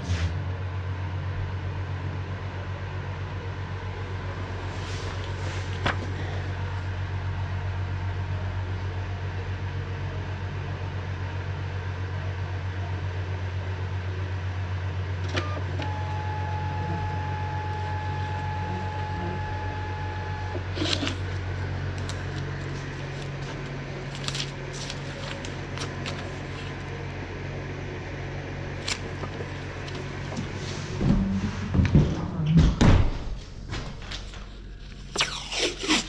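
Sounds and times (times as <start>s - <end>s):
workshop machine hum: 0.0s - 36.0s.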